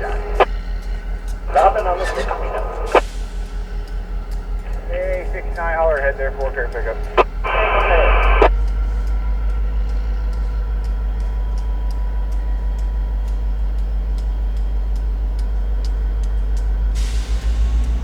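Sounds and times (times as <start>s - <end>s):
diesel locomotive idling: 0.0s - 18.0s
faint regular ticking: 0.0s - 18.0s.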